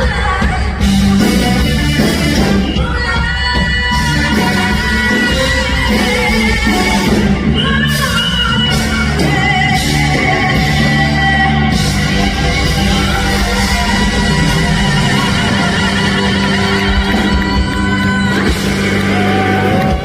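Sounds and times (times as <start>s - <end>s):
rock band playing: 0.0s - 20.0s
singer belting high notes: 0.0s - 20.0s.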